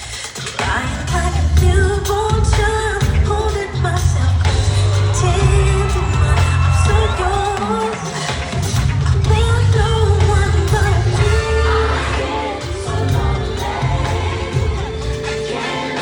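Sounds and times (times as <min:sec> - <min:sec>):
loud live pop music: 0:00.0 - 0:16.0
person singing lead vocal: 0:00.0 - 0:16.0.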